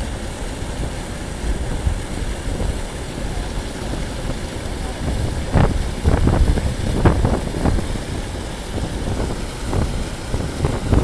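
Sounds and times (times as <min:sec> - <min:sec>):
wind buffeting microphone: 0:00.1 - 0:11.0.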